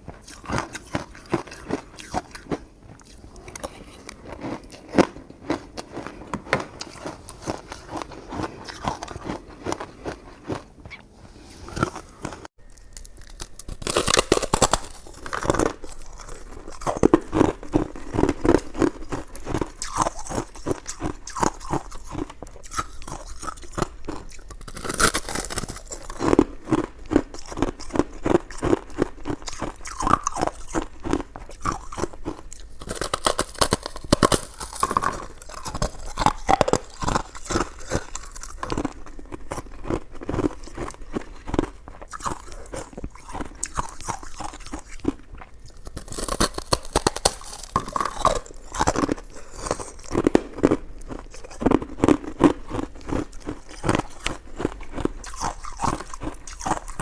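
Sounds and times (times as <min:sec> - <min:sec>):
person chewing: 0:00.0 - 0:57.0.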